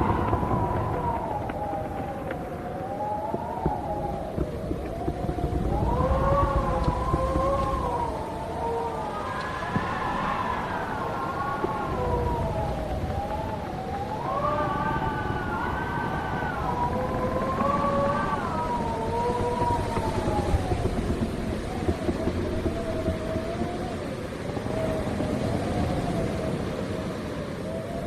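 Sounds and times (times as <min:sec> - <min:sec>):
faint ticks and knocks: 0:00.0 - 0:26.4
low rumble of gusts: 0:00.0 - 0:28.0
wind howling and whistling: 0:00.0 - 0:28.0.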